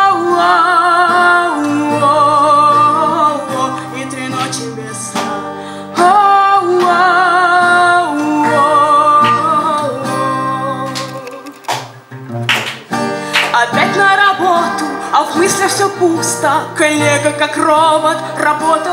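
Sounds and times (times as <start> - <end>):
woman singing with vibrato: 0.0 - 11.7, 13.4 - 18.9
strummed acoustic guitar: 0.0 - 18.9.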